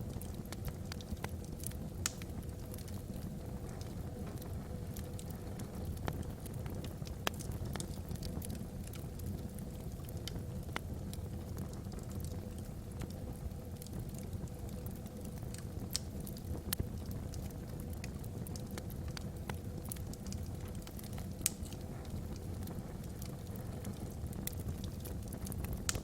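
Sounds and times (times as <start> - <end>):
fire rumbling in fireplace: 0.0 - 26.0
wood crackling and popping: 0.0 - 26.0.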